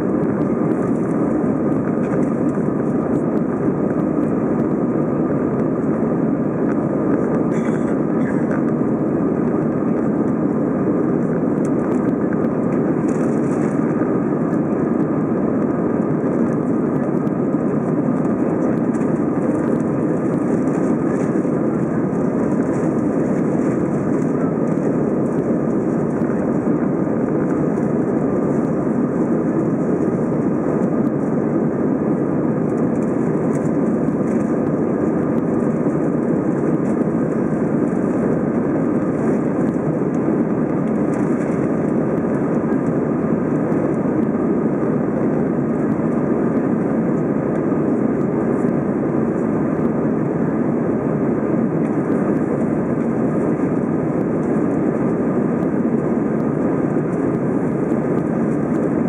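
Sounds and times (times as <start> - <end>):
airplane cabin engine rush: 0.0 - 59.0
faint steady whining tones: 0.0 - 59.0.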